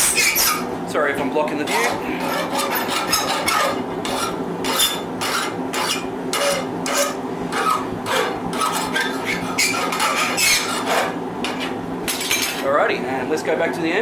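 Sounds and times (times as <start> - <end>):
file rasping on steel: 0.0 - 0.7, 1.7 - 12.7
steady low hum: 0.0 - 14.0.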